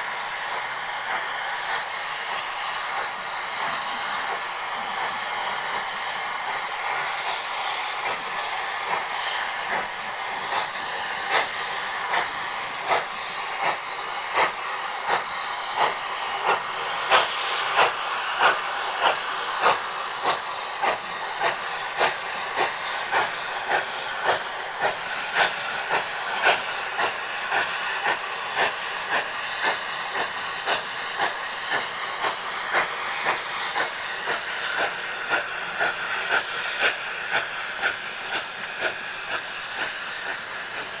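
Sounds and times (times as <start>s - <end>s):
steam hissing: 0.0s - 41.0s
steam locomotive exhaust chuffs: 0.0s - 41.0s.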